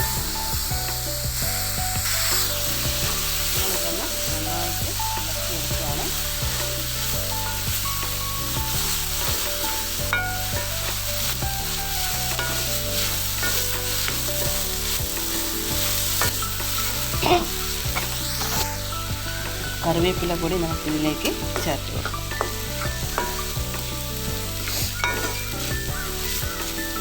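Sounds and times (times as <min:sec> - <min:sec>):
food sizzling in oil: 0:00.0 - 0:27.0
spoon scraping pan: 0:02.0 - 0:27.0.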